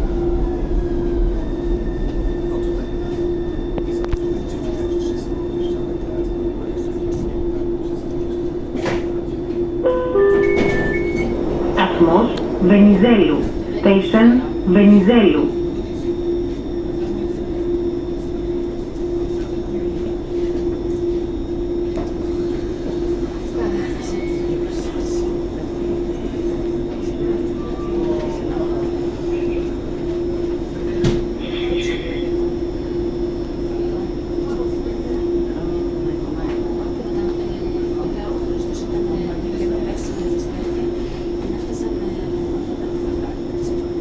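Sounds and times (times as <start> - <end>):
constant mid-pitched tone: 0.0 - 44.0
train electric hum: 0.0 - 44.0.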